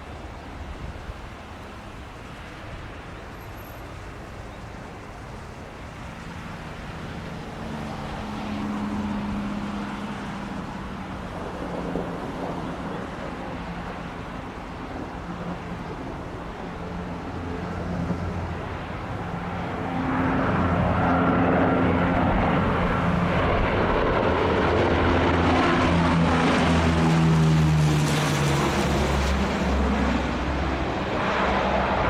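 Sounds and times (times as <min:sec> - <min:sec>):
low propeller hum: 0:00.0 - 0:32.0
turboprop engines droning: 0:00.0 - 0:32.0.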